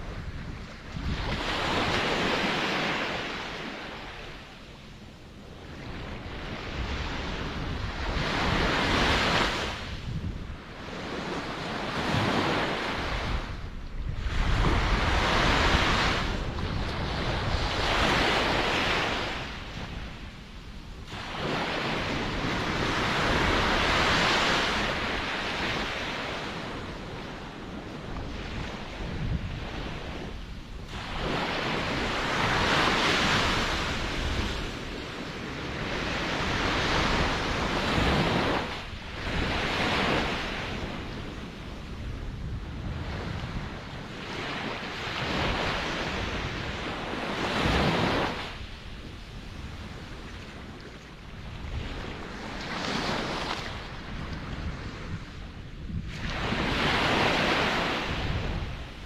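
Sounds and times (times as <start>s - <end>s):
ocean waves breaking: 0.0s - 4.6s, 5.7s - 10.1s, 10.7s - 20.4s, 21.0s - 48.9s, 49.6s - 59.0s.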